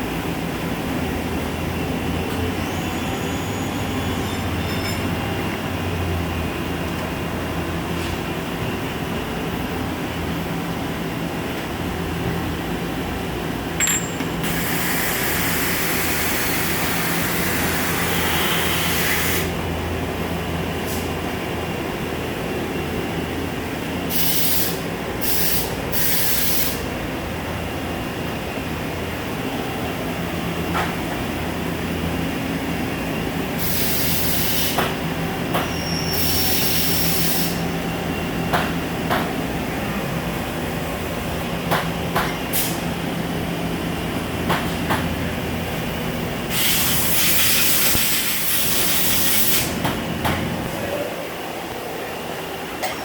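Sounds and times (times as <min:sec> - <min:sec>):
machinery steady hum: 0:00.0 - 0:53.0.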